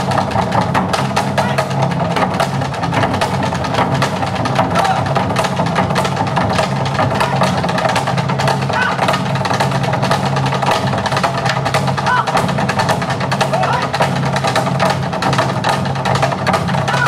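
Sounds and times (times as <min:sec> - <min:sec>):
barrel drums beaten rapidly: 0:00.0 - 0:17.0.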